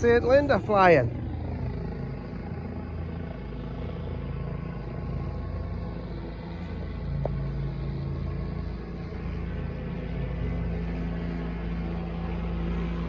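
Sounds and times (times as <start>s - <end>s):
helicopter flying over: 0.0s - 13.0s.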